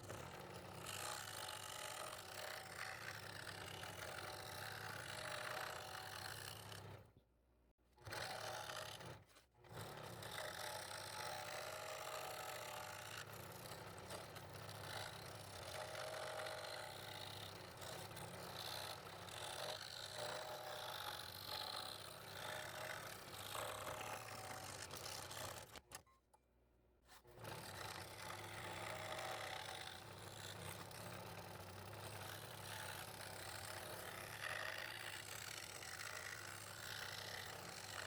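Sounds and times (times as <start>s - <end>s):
scroll saw cutting wood: 0.0s - 7.0s, 8.0s - 26.0s, 27.1s - 38.0s.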